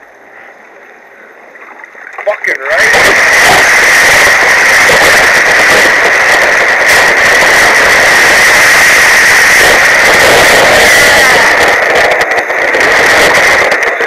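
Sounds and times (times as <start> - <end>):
boat engine running hard: 0.0 - 14.0.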